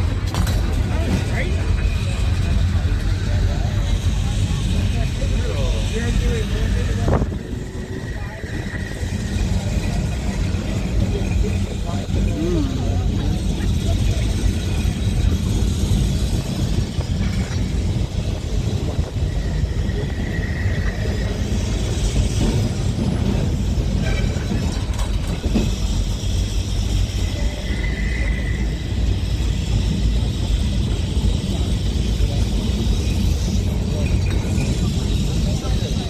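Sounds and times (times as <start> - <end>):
tram wheels and motors rumbling: 0.0 - 36.0.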